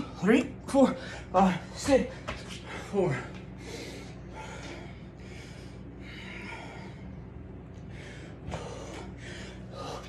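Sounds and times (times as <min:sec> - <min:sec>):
low hum: 0:00.0 - 0:10.0
man breathing hard: 0:00.9 - 0:10.0.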